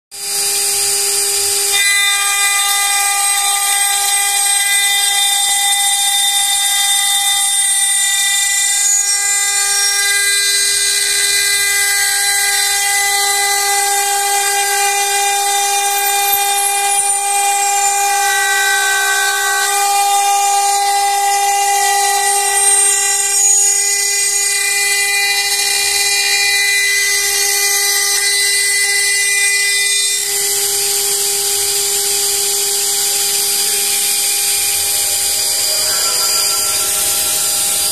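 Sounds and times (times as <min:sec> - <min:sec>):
spindle whine: 0:00.2 - 0:37.9
glass grinding hiss: 0:01.7 - 0:30.1, 0:33.6 - 0:37.9.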